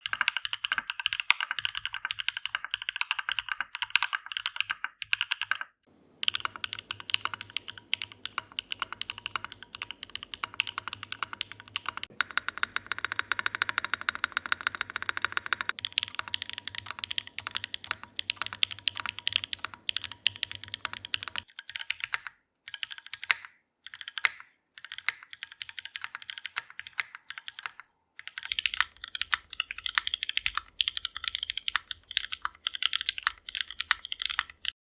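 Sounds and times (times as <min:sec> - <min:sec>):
mechanical keyboard typing: 0:00.0 - 0:34.8.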